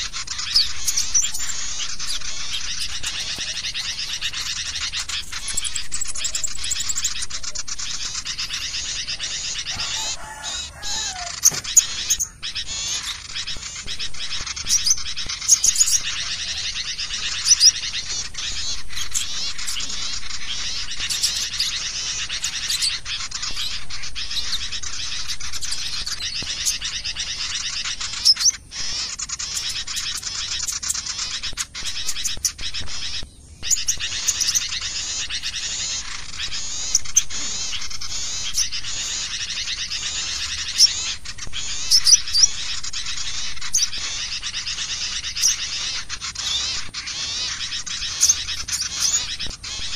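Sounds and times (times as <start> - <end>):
small birds chattering and twittering: 0.0 - 49.9.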